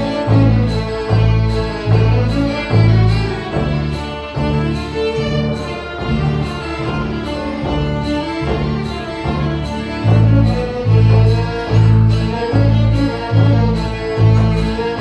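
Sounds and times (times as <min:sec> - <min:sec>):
low bass notes: 0:00.0 - 0:15.0
violins playing lively tune: 0:00.0 - 0:15.0.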